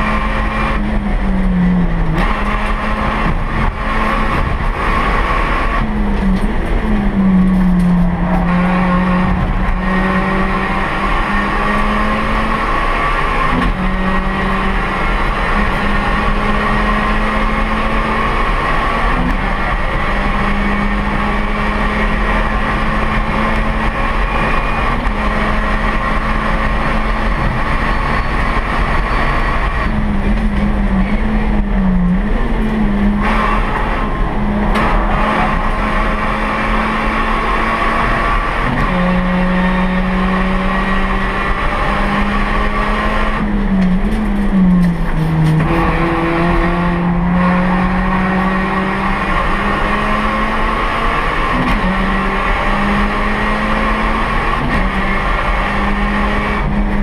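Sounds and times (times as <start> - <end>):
car engine running at speed: 0.0 - 57.0.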